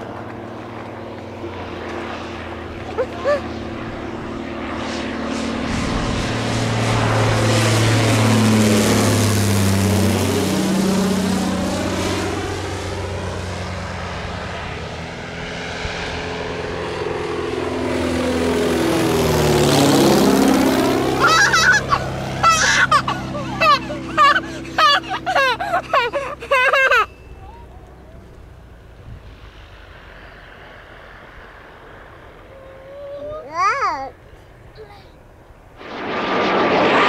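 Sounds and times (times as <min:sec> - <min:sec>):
propeller plane passing overhead: 0:00.0 - 0:37.0.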